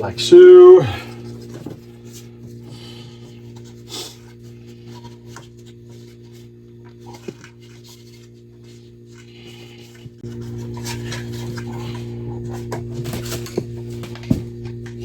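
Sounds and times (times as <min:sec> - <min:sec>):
steady low hum: 0:00.0 - 0:15.0
wires rustling and scraping: 0:01.1 - 0:14.2.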